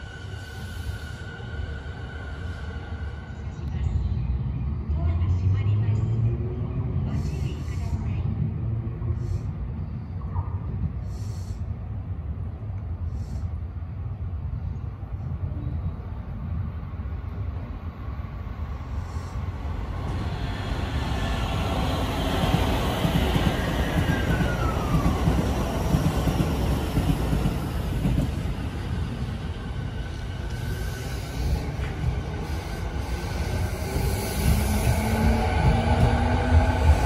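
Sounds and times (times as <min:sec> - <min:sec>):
train passing with rail noise: 0:00.0 - 0:37.0.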